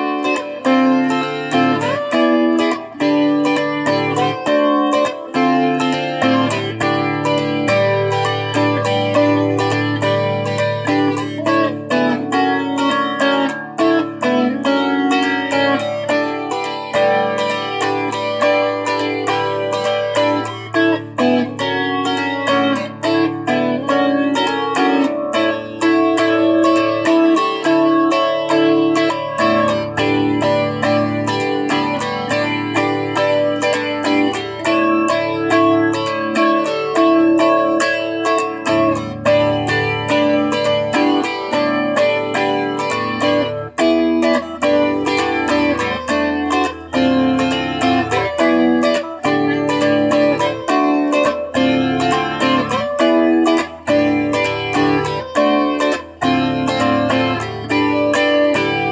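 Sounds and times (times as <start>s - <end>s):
guitar instrumental: 0.0s - 58.9s.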